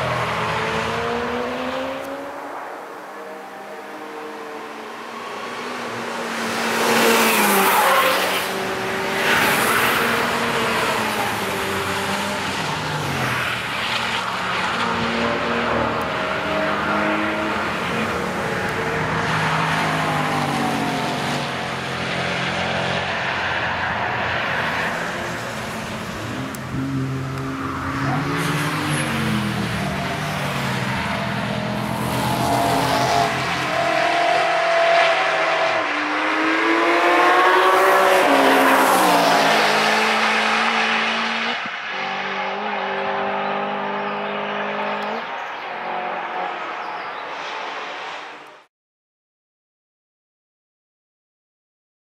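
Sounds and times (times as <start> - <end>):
race cars passing at speed: 0.0 - 48.7.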